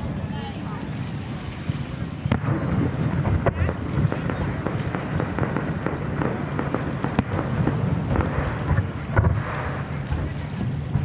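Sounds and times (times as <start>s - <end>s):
crowd rumble: 0.0s - 11.0s
wind: 0.0s - 11.0s
firework bangs: 1.6s - 11.0s
firework pops: 1.7s - 11.0s.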